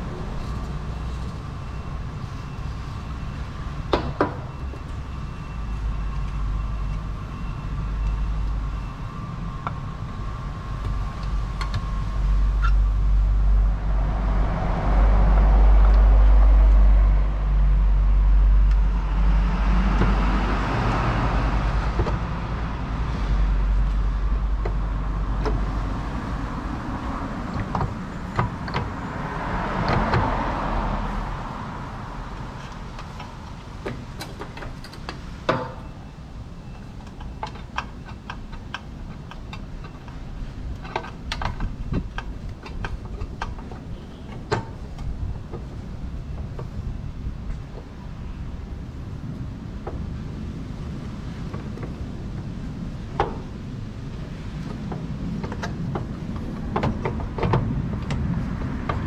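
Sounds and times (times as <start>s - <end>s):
vehicles passing with deep rumble: 0.0s - 59.0s.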